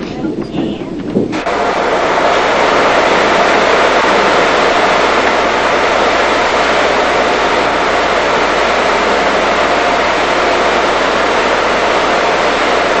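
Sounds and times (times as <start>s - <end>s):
computer cooling fans running: 0.0s - 13.0s.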